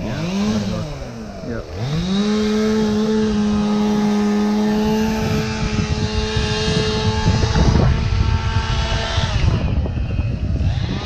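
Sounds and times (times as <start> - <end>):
chainsaw at full throttle: 0.0 - 11.0.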